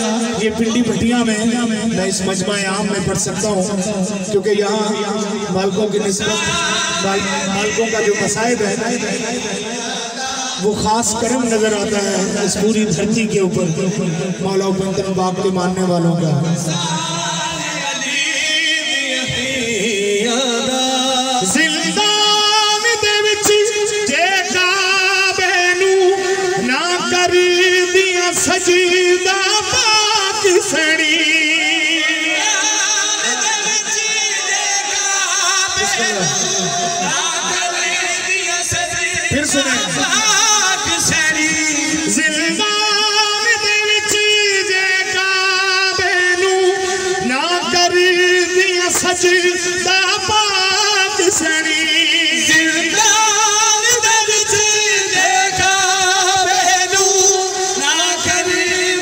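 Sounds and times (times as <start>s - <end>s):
man singing a lament: 0.0s - 59.0s.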